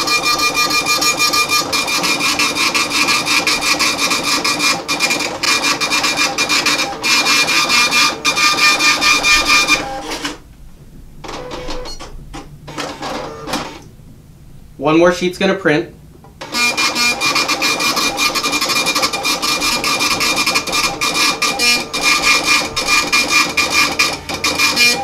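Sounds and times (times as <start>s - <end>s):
dot-matrix printer chattering: 0.0s - 10.4s, 11.2s - 13.8s, 16.4s - 25.0s.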